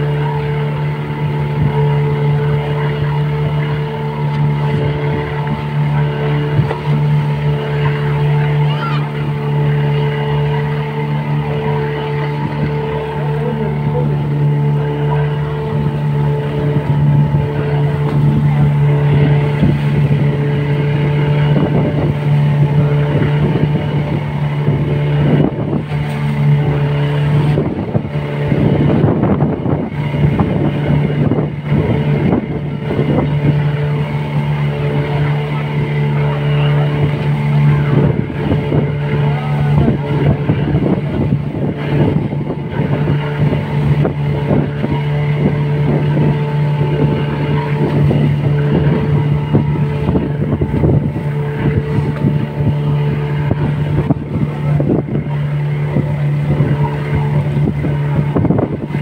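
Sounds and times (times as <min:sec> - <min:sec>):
boat engine humming: 0:00.0 - 0:59.0
water splashing along hull: 0:00.0 - 0:59.0.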